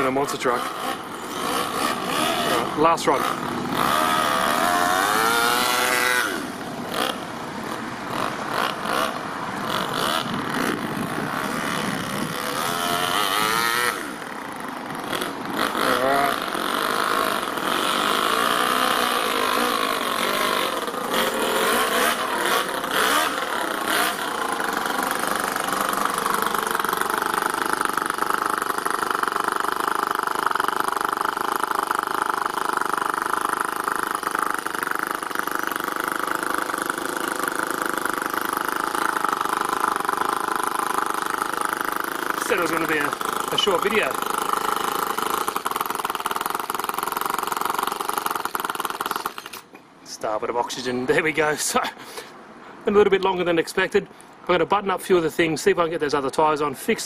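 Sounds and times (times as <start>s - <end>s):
model engine revving: 0.0s - 49.7s.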